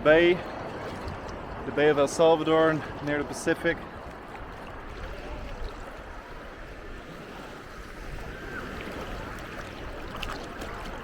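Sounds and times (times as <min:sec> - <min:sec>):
seawater sloshing and waves: 0:00.0 - 0:11.0.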